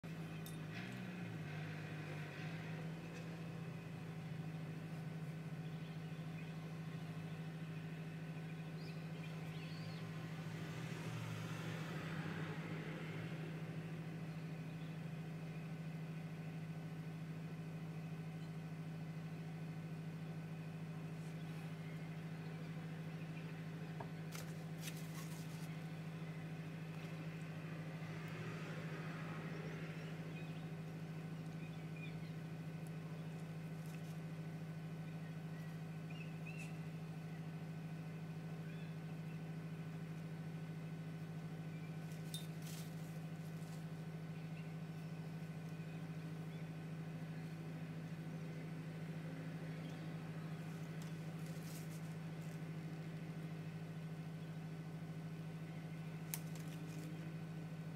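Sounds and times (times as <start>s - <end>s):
appliance humming: 0.0s - 57.9s.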